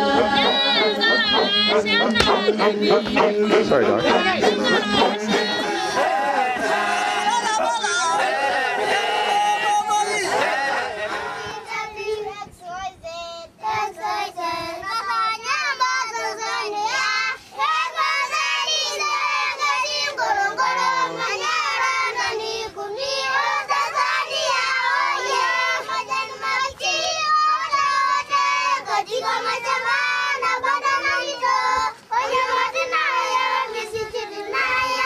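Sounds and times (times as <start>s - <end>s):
children singing together: 0.0s - 35.0s.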